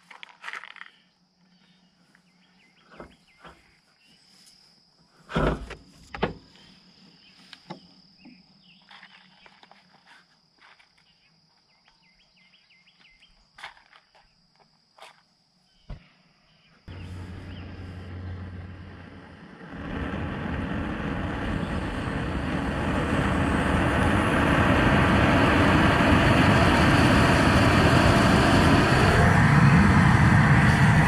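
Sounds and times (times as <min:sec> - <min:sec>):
insect drone: 0:00.0 - 0:31.0.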